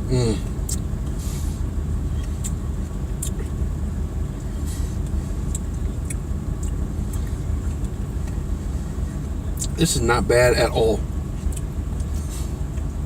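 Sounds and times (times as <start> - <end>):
car rumble: 0.0 - 13.0.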